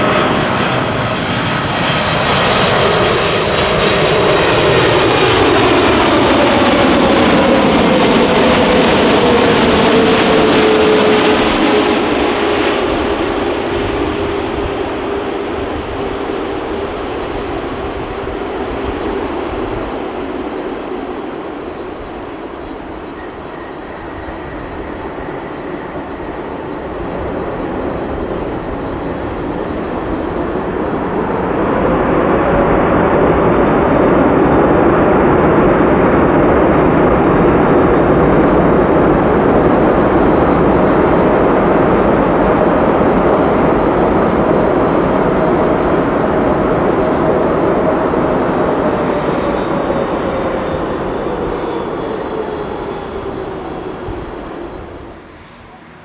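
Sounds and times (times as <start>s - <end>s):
high jet engine whine: 0.0s - 56.0s
jet engines roaring: 0.0s - 56.0s.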